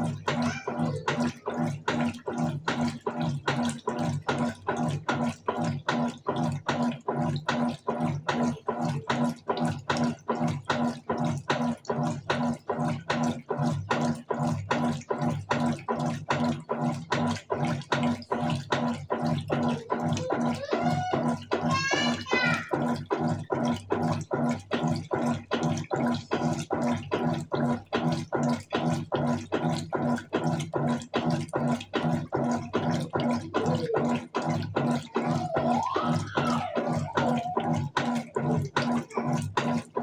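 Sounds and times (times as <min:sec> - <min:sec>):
washing machine motor hum: 0:00.0 - 0:40.0
washing machine sloshing water: 0:00.0 - 0:40.0.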